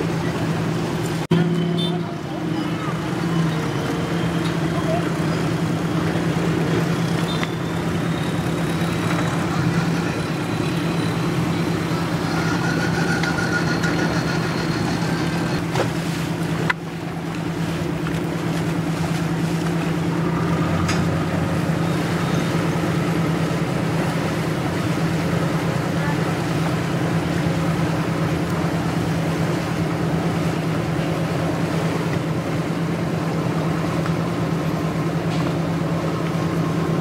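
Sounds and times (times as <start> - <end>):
boat engine droning: 0.0 - 37.0
water rushing: 0.0 - 37.0.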